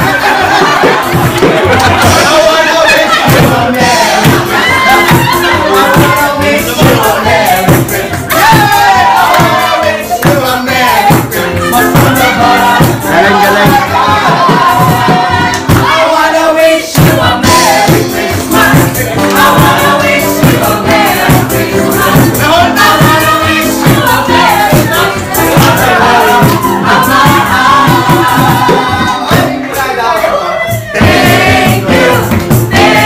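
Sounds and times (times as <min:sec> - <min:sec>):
steady beat: 0:00.0 - 0:16.3, 0:16.9 - 0:33.0
group singing together: 0:00.0 - 0:33.0.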